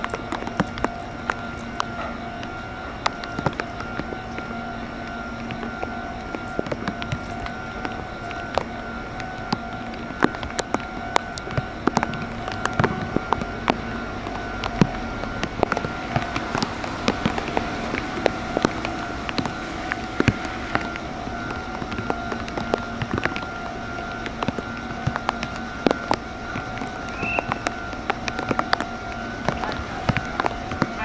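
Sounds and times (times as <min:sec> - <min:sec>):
electric train hum: 0:00.0 - 0:31.0.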